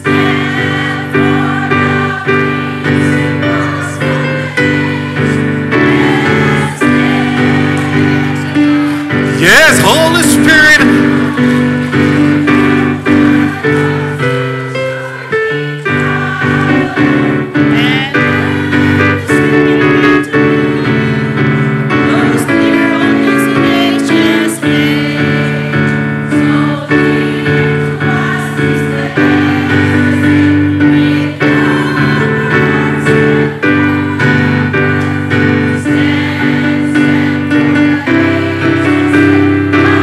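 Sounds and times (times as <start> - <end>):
group of people singing: 0.0 - 40.0.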